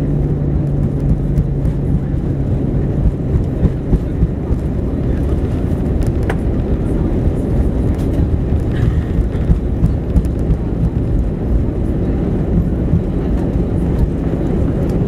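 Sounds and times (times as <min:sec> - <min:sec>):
aircraft engines rumbling: 0:00.0 - 0:15.0
wheels rolling on tarmac: 0:00.0 - 0:15.0.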